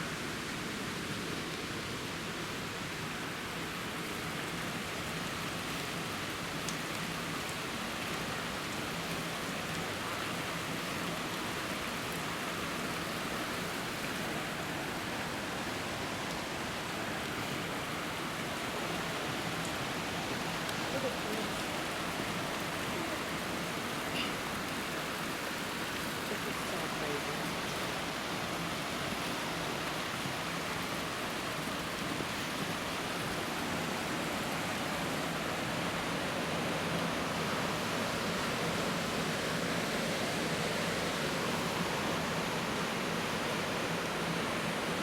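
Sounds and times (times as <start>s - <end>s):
rushing water: 0.0s - 45.0s.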